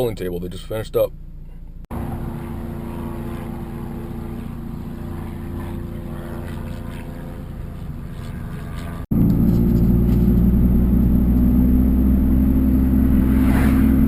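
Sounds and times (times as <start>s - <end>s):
motor engine humming: 1.1s - 14.0s.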